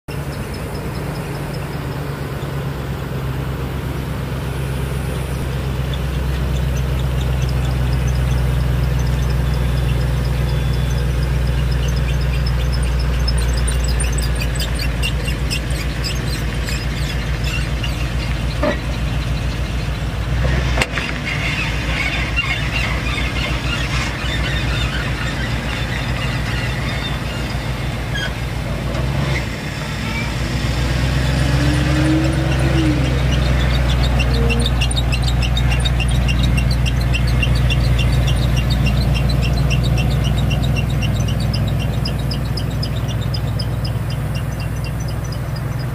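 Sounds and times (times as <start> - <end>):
truck engine idling: 0.0 - 45.9
high-pitched chirping squeal: 0.1 - 2.8, 3.9 - 20.1, 21.2 - 28.5, 29.9 - 45.9.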